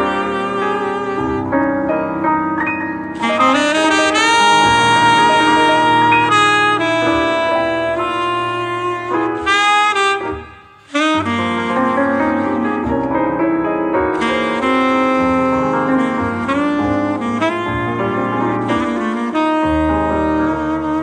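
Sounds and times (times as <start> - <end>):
saxophone jazz with piano: 0.0 - 21.0.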